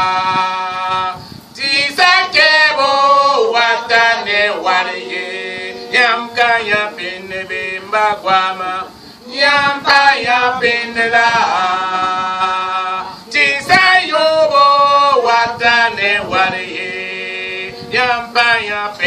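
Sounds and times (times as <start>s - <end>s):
men singing chant-like song: 0.0s - 19.0s.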